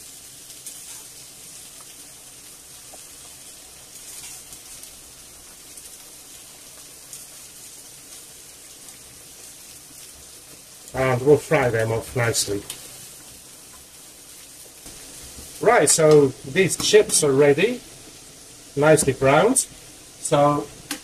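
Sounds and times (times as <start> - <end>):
chips sizzling in hot oil: 0.0 - 21.0.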